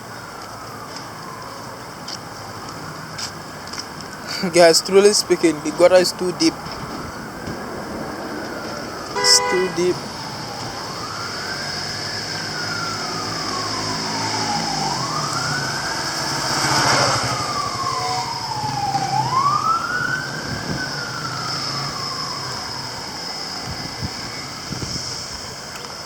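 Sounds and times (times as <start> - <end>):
wailing siren: 0.0 - 25.7.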